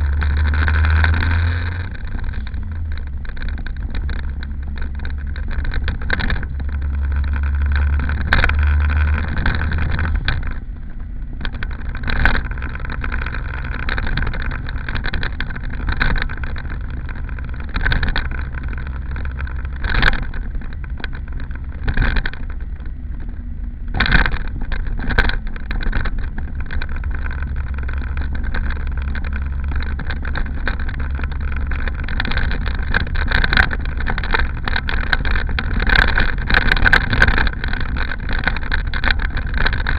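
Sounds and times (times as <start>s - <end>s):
small car engine running: 0.0s - 39.9s.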